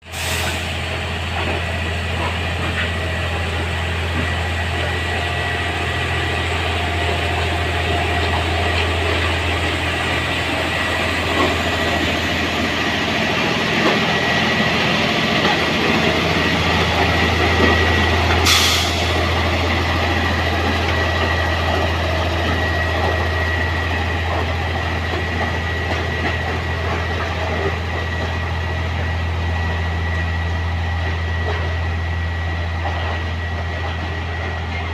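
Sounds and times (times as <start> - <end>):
heavy engine idling: 0.1 - 34.9.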